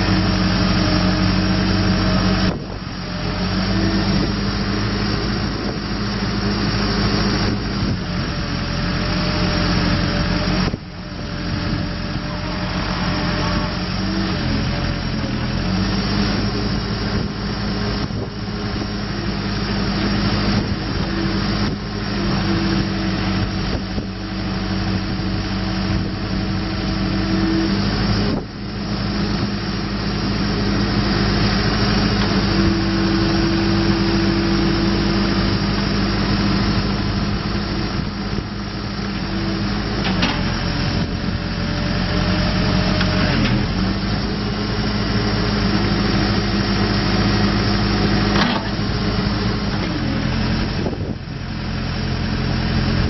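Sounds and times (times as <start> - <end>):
diesel engine running: 0.0 - 53.0
higher steady engine note: 0.0 - 53.0.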